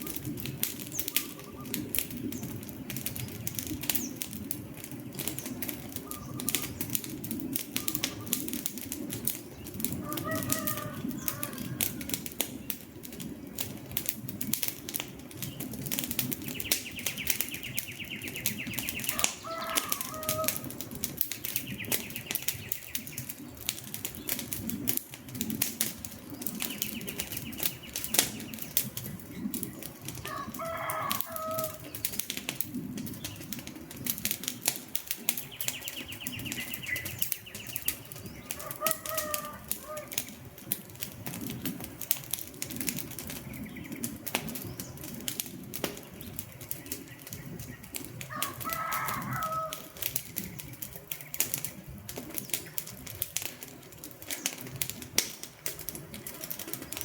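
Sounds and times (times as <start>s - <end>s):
birds calling: 0.0s - 13.6s, 14.4s - 57.0s
campfire crackling and popping: 0.0s - 57.0s.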